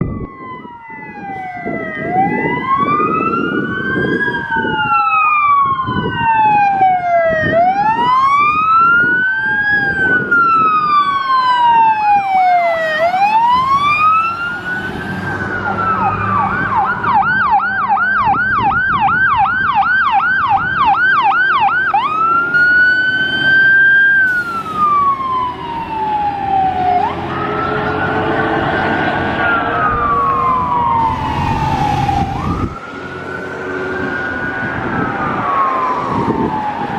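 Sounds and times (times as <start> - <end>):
siren yelping: 0.0 - 36.9
sirens wailing: 0.0 - 36.9
truck engines: 0.0 - 36.9.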